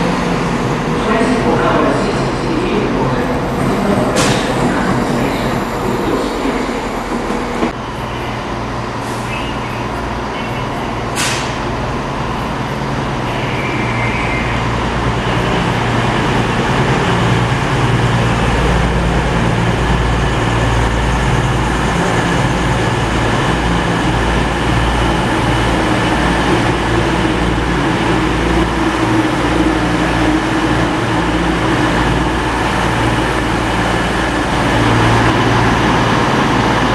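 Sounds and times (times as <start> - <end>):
diesel train engines droning: 0.0 - 36.9.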